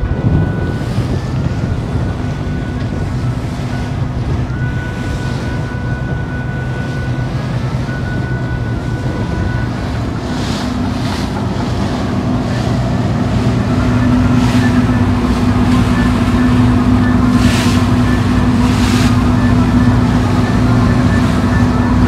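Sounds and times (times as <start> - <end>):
boat engine humming: 0.0 - 22.0
water rushing along hull: 0.0 - 22.0
wind on microphone: 0.0 - 22.0
splashy swells: 0.2 - 22.0.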